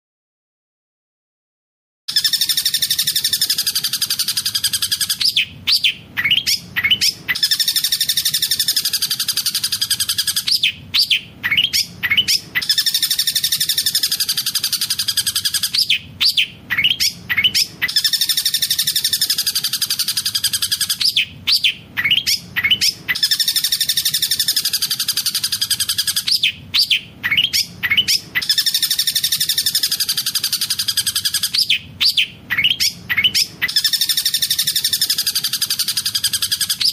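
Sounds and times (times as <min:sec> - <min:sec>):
bird trill: 0:02.1 - 0:36.9
sharp bird calls: 0:02.1 - 0:36.9.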